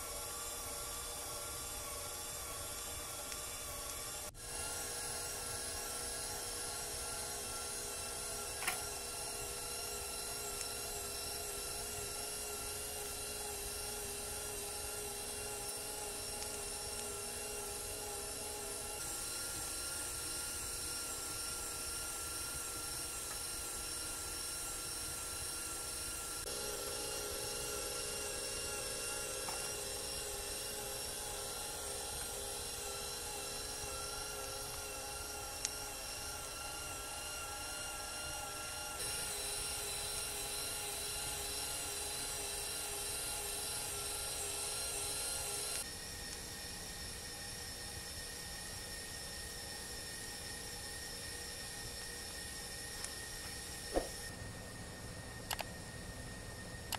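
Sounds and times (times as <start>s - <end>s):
stand mixer motor whine: 0.0s - 56.9s.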